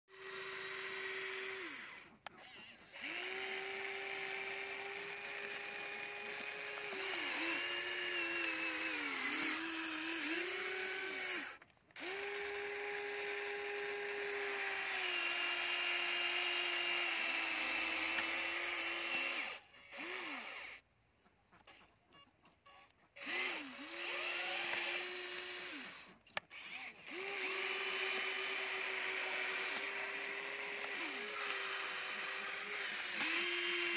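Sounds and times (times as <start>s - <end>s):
toy electric motors whining: 0.1s - 33.9s.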